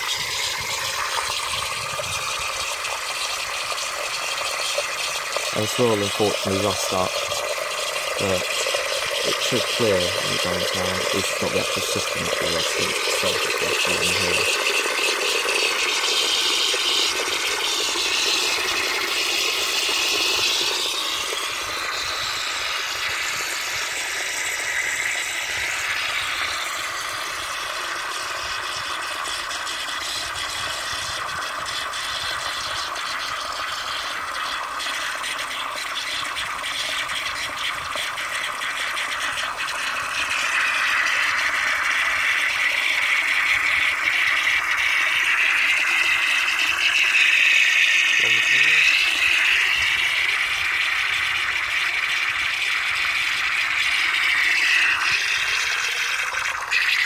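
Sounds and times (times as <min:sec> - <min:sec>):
toilet cistern refilling: 0:00.0 - 0:57.0.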